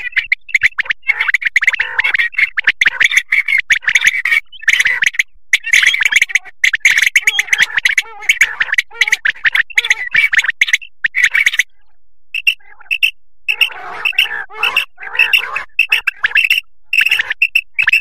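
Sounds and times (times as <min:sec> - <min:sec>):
quail calling: 0:00.0 - 0:18.0.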